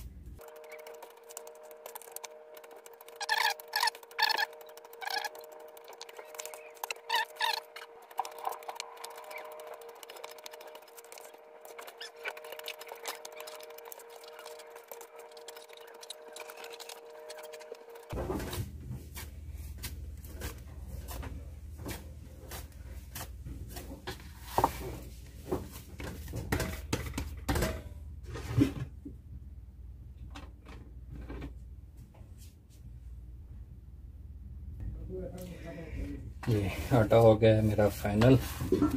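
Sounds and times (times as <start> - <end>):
dough kneaded in steel tray: 0.0 - 28.9, 36.4 - 38.9.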